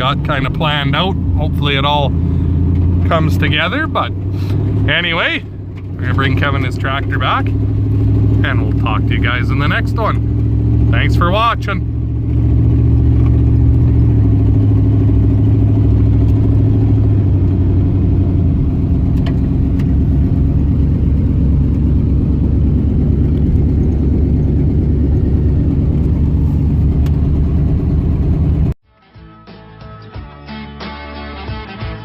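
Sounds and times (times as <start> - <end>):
road rumble: 0.0 - 28.8
vehicle engine drone: 0.0 - 28.8.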